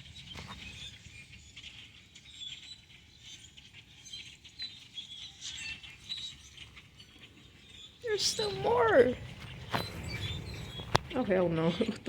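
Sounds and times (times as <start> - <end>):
flock of small birds chirping: 0.0 - 12.0.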